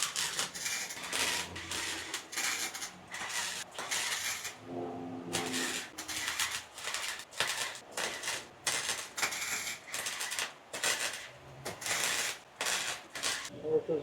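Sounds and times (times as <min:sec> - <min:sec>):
welding arc crackling: 0:00.0 - 0:04.6, 0:05.3 - 0:13.5.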